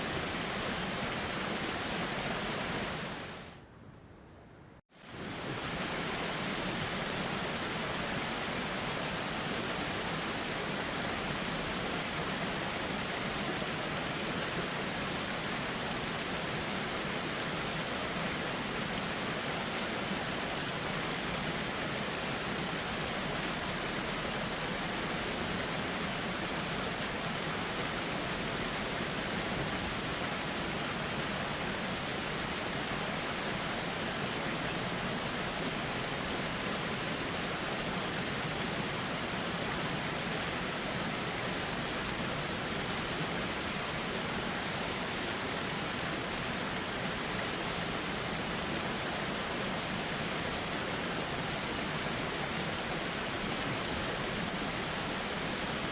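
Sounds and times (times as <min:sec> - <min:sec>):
flowing river rushing: 0:00.0 - 0:03.6, 0:05.0 - 0:55.9.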